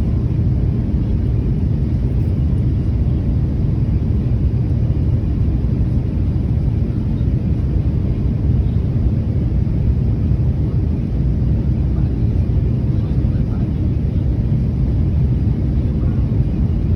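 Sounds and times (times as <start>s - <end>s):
airliner cabin rumble: 0.0s - 16.9s.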